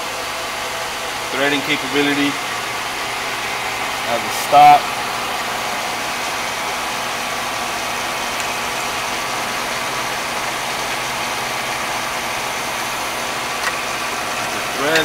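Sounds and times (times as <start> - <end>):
lathe running: 0.0 - 15.0.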